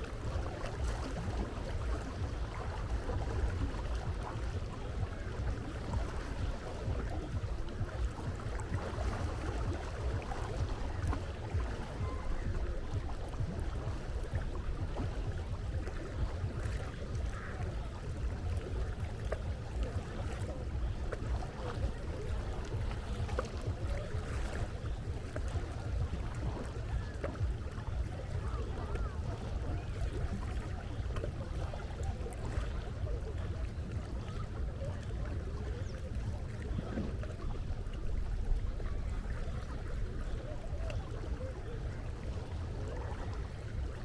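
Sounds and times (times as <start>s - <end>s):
sea waves washing: 0.0s - 44.0s
wind rumble on microphone: 0.0s - 44.0s.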